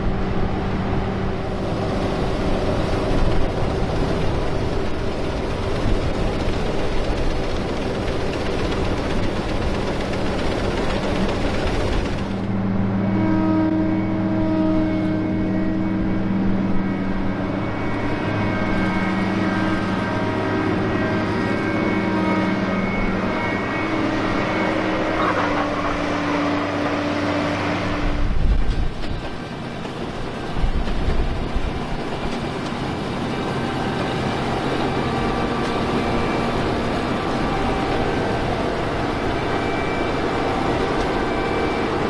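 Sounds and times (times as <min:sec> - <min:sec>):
large engine hum: 0:00.0 - 0:42.0.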